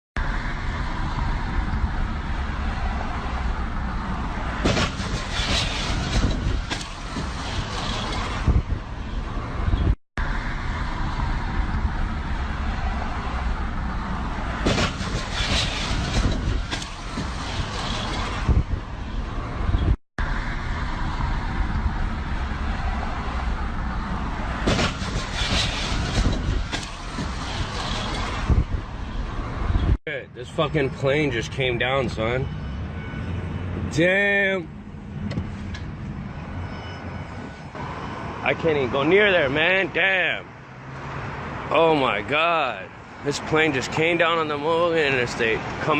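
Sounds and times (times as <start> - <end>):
car road noise: 0.2 - 45.9.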